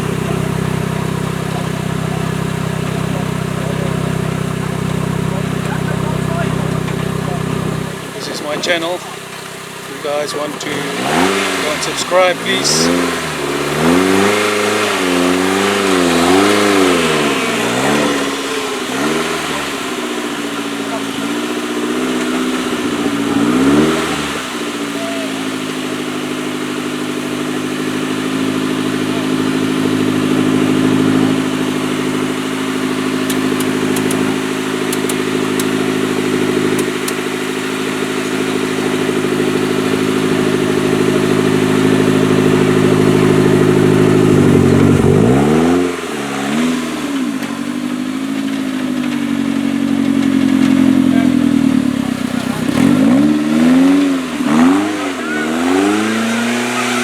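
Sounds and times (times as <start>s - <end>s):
engine at high revs: 0.0s - 57.0s.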